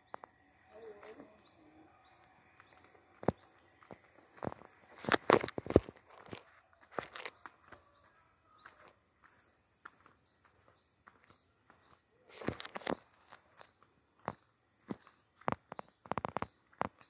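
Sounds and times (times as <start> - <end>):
bird chirping: 0.0 - 17.0
footsteps on concrete: 0.1 - 17.0.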